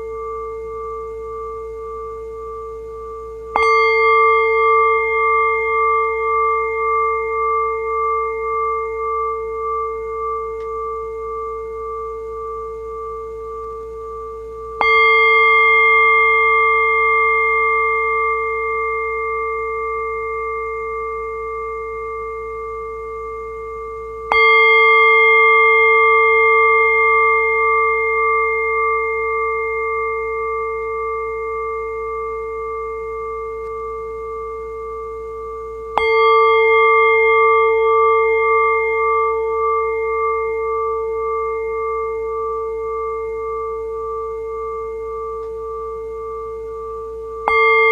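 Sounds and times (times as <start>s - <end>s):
bell ringing with wavering hum: 0.0s - 47.9s.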